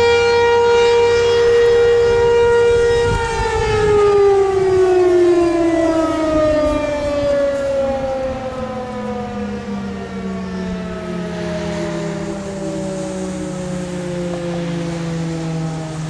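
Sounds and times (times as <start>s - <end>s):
lower siren tone: 0.0s - 16.0s
warning siren winding down: 0.0s - 16.0s.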